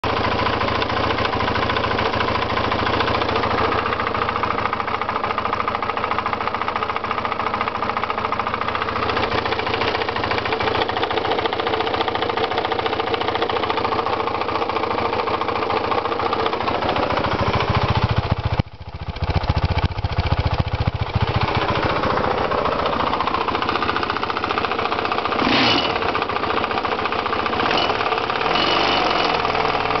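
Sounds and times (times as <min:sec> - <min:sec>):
motorcycle engine clattering: 0:00.1 - 0:30.0.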